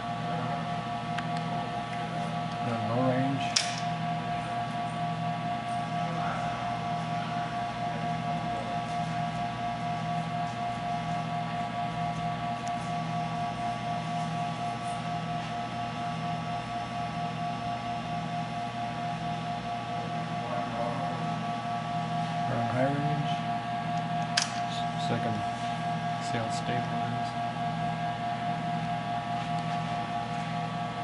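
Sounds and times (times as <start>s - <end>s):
welding power supply hum and whine: 0.0s - 31.0s.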